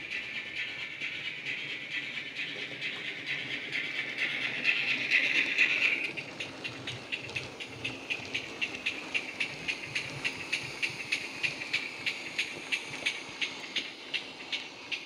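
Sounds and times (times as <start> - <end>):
steam hiss: 0.0 - 15.0
steam locomotive exhaust chuffs: 0.0 - 15.0.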